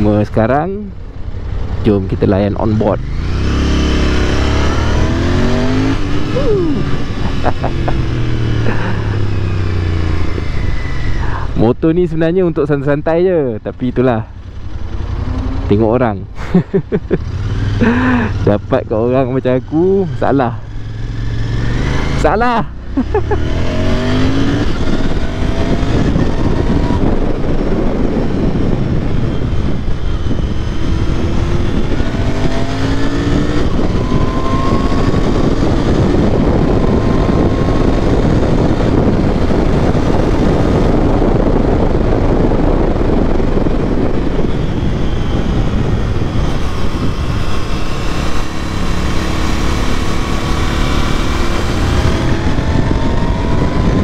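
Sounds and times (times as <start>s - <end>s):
motorcycle engine accelerating: 0.0s - 11.4s, 13.9s - 54.0s.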